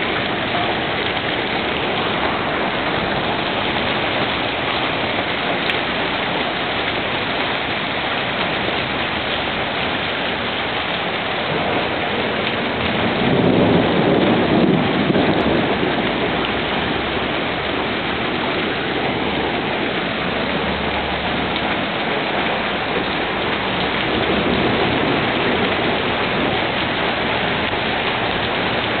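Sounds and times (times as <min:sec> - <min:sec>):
thunder rumble: 0:00.0 - 0:06.1, 0:10.8 - 0:29.0
heavy rain on pavement and cars: 0:00.0 - 0:29.0.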